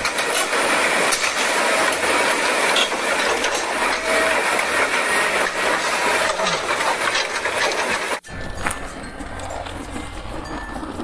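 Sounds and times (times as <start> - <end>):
crane tracks mechanical rattle: 0.0 - 11.0.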